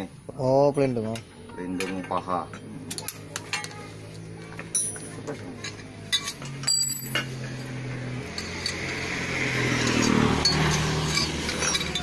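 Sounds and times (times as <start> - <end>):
vehicle engine passing: 2.2 - 12.0.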